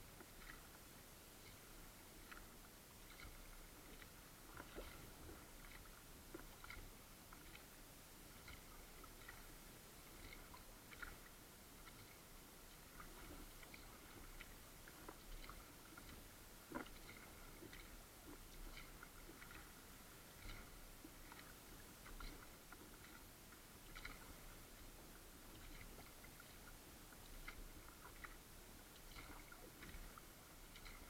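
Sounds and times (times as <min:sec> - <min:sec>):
faint kayak paddling: 0:00.0 - 0:31.0.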